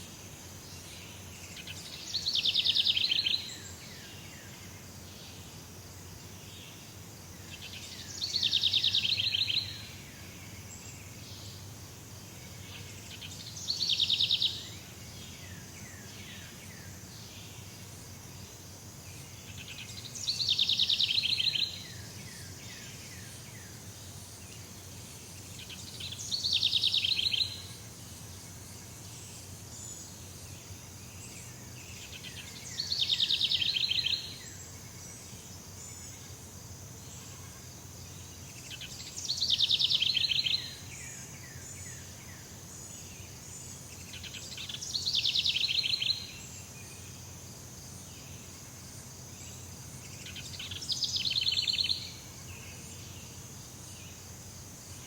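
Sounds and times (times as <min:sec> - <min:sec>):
high insect-like hiss: 0:00.0 - 0:55.0.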